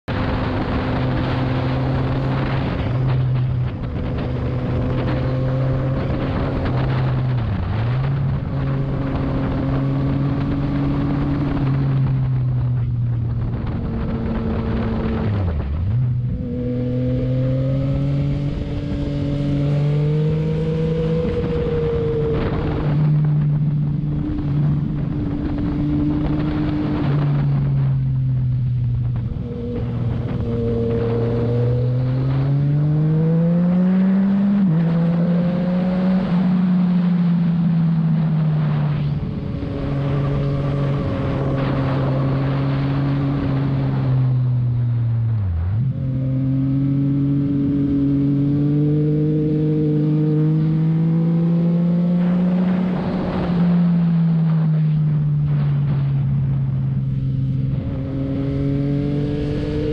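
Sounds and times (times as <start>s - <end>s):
motorcycle engine running: 0.1s - 59.9s
wind rush over microphone: 0.1s - 59.9s.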